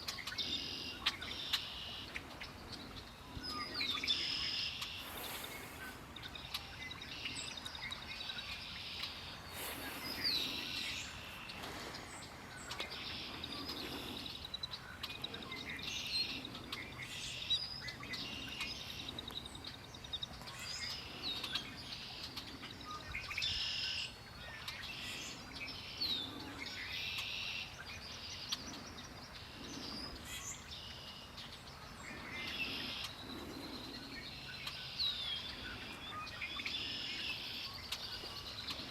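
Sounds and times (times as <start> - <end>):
birds chirping and singing: 0.0 - 38.9
steady background hiss: 0.0 - 38.9.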